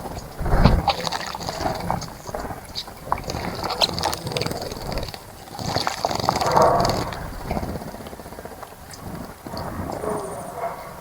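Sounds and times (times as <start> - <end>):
wind on microphone: 0.0 - 10.6.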